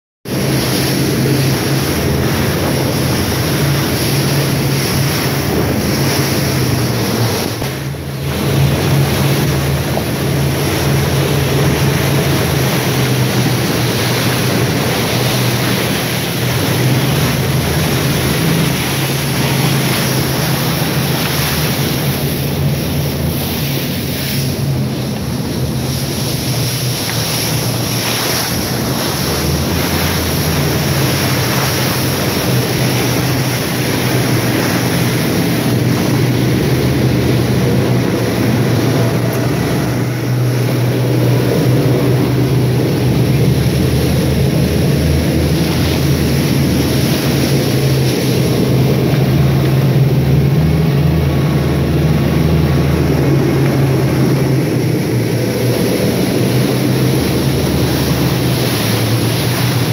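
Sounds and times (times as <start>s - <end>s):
wind rush on microphone: 0.2s - 59.9s
boat engines droning: 0.3s - 59.9s
water spray: 0.4s - 59.9s.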